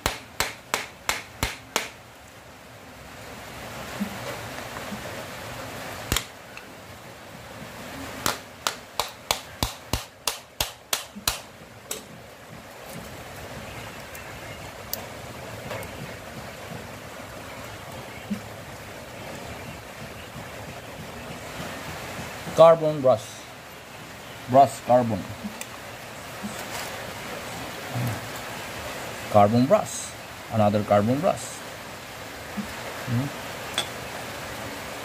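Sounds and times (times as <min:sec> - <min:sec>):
steady background hiss: 0:00.0 - 0:35.0.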